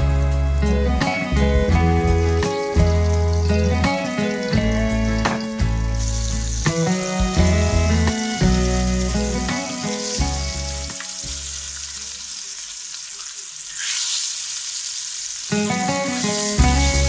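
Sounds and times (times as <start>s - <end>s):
background music: 0.0s - 12.2s, 15.5s - 17.0s
cutlets sizzling in hot lard: 0.0s - 17.0s.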